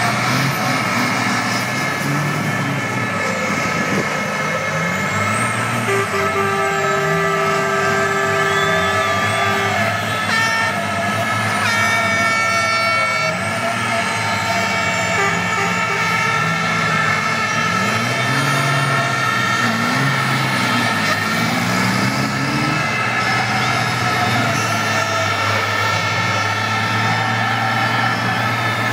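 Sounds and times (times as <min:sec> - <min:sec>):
diesel truck engine revving: 0:00.0 - 0:28.9.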